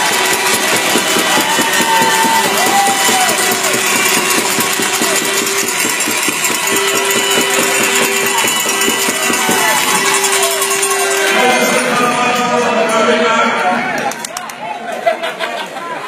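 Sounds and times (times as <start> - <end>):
horn held tone: 0.0 - 14.0
crowd cheering and clapping: 0.0 - 16.0.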